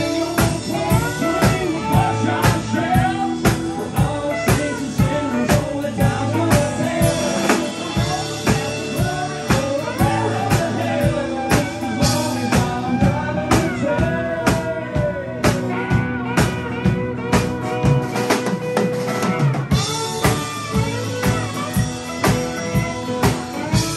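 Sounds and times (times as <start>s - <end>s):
drum kit steady beat: 0.0s - 23.9s
electric and acoustic guitars: 0.0s - 23.9s.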